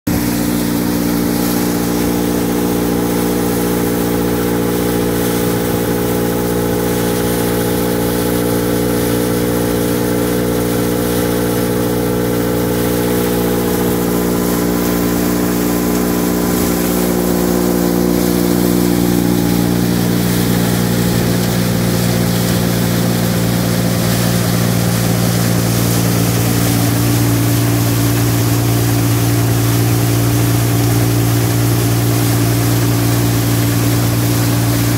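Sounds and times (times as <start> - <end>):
engine-driven crop thresher running: 0.1 - 34.9.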